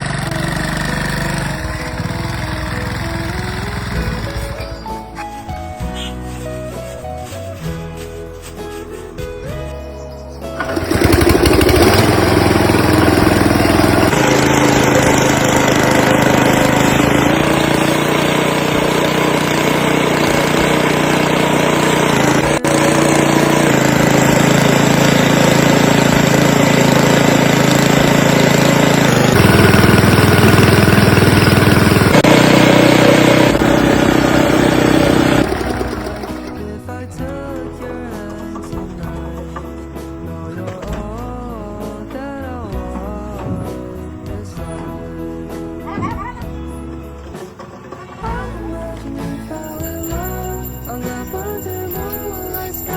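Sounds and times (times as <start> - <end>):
motorcycle engine driving a mill: 0.0 - 8.5, 9.5 - 52.9.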